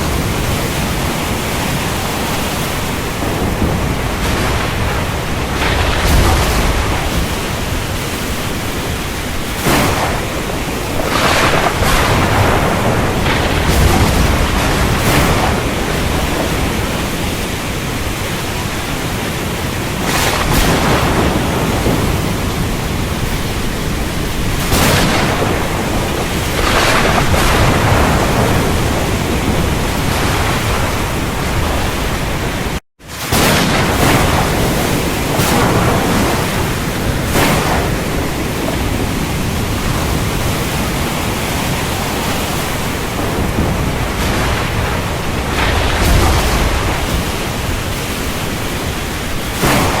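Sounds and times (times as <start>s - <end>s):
heavy rain pouring: 0.0s - 50.0s
thunder cracks: 0.0s - 50.0s.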